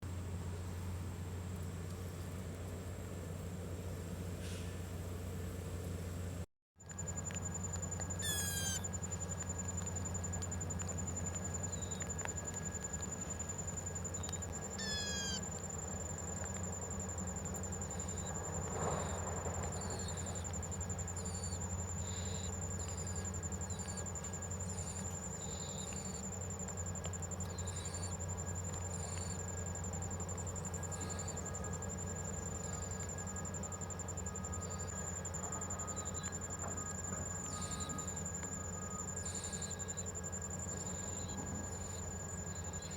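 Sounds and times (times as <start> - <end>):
low steady hum: 0.0 - 42.9
cricket-like insect drone: 0.1 - 42.9.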